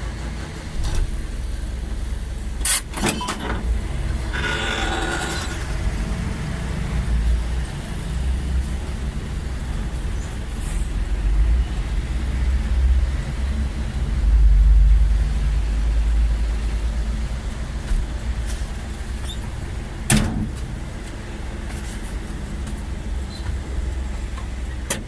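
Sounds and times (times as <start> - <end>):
motor vehicle deep rumble: 0.0 - 25.0.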